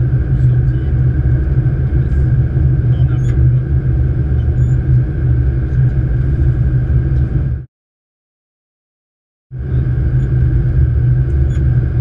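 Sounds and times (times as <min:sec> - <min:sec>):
airplane cockpit rumble: 0:00.0 - 0:07.7, 0:09.5 - 0:12.0.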